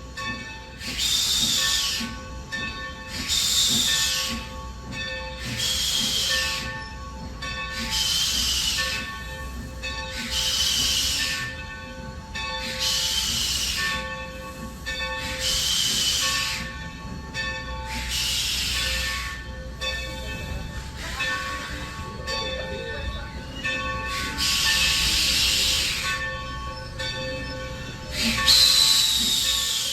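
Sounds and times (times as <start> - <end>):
steam locomotive hissing bursts: 0.0 - 22.5, 23.4 - 29.9.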